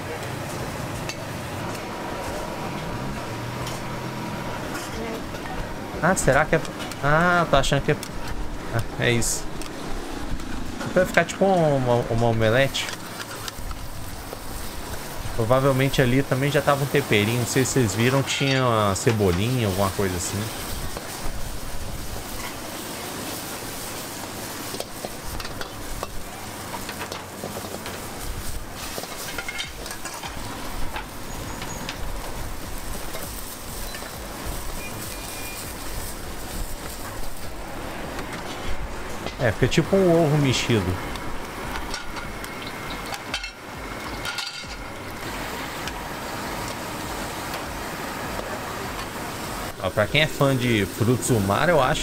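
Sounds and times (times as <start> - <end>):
food sizzling in hot oil: 0.4 - 52.0.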